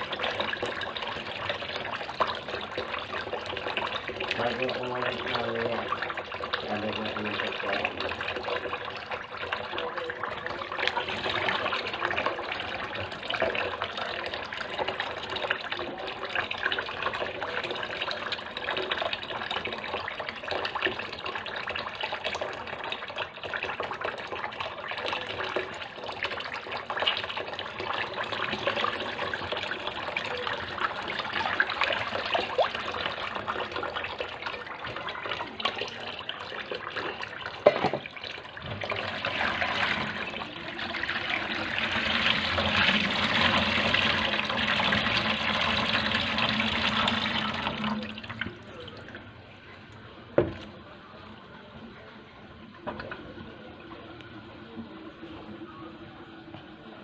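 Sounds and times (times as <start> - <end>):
tap water running into basin: 0.0 - 49.3, 49.9 - 50.8, 52.7 - 54.4.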